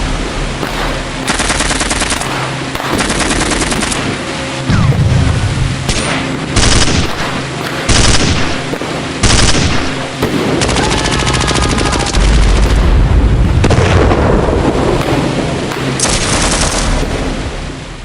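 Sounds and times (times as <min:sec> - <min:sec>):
rapid automatic gunfire: 0:00.0 - 0:17.6
deep rumble: 0:00.0 - 0:18.0
heavy blasts: 0:00.0 - 0:18.0.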